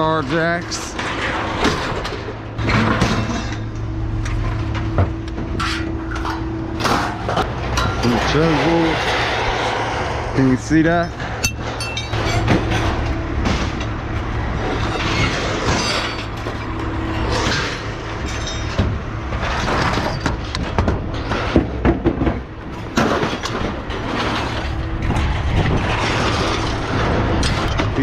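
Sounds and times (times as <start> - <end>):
scrap metal clanking: 0.0 - 9.7, 10.6 - 28.0
low engine rumble: 0.0 - 28.0.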